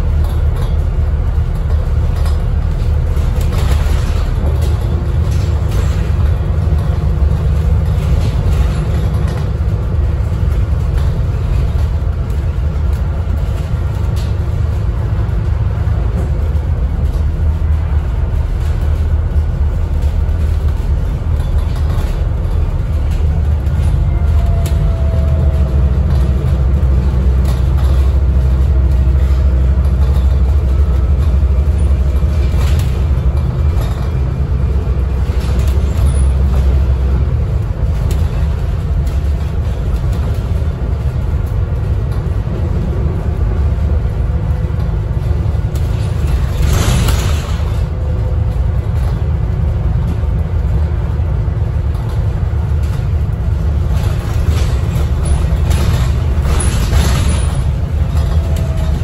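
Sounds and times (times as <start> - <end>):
bus diesel engine drone: 0.0 - 59.0
road noise: 0.0 - 59.0.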